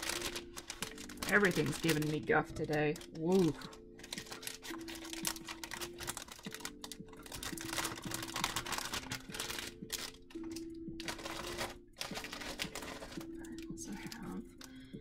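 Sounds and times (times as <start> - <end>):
plastic packaging clicks and rustles: 0.0 - 14.9
soft background music: 0.0 - 15.0.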